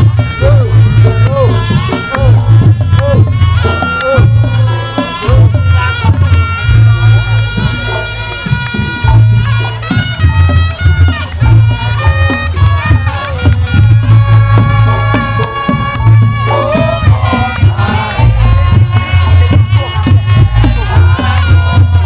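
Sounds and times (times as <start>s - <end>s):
heavy booming drum beats: 0.0s - 22.0s
reedy shawm melody: 0.0s - 22.0s.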